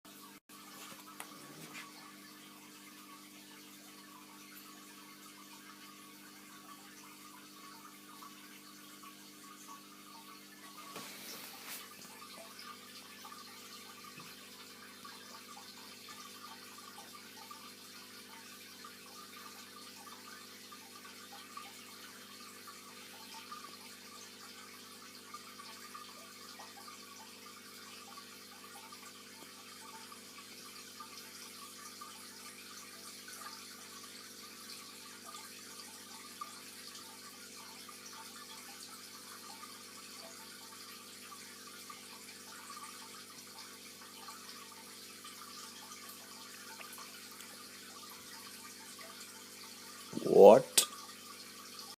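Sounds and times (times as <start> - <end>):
aquarium water trickling: 0.1 - 52.0.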